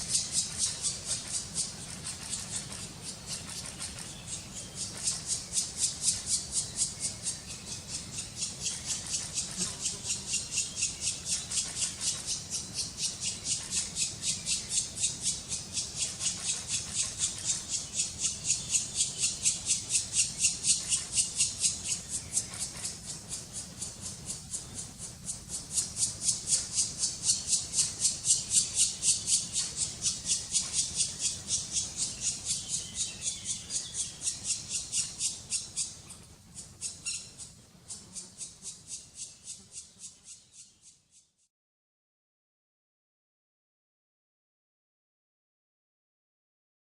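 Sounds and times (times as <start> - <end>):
woodpecker nestlings begging calls: 0.0 - 40.9.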